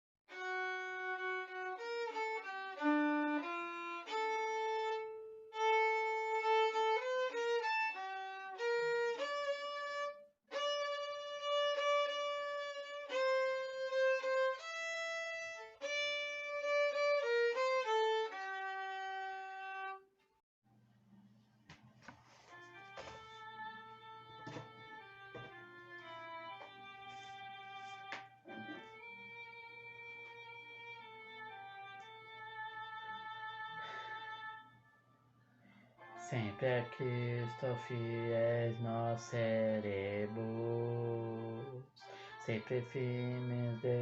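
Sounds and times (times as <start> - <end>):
solo instrument playing hymn tune: 0.3 - 20.1, 22.5 - 34.8, 36.0 - 44.0.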